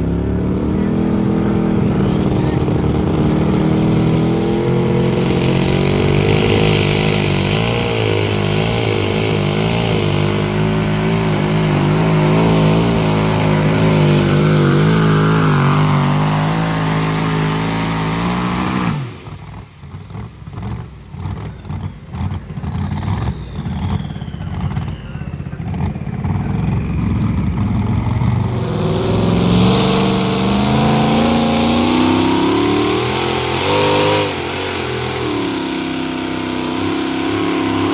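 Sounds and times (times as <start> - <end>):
engine running under load: 0.0 - 37.9
engine whine winding down: 0.0 - 37.9.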